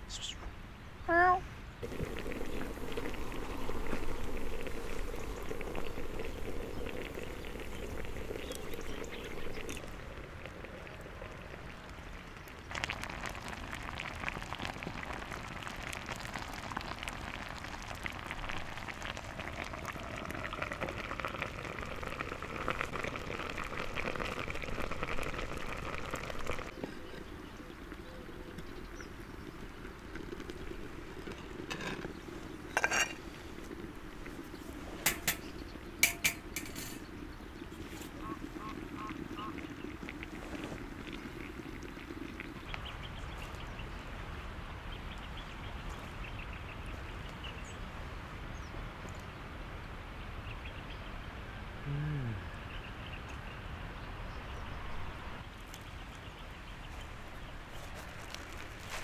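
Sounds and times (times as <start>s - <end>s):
liquid bubbling and sizzling: 1.8s - 49.4s, 54.6s - 59.0s.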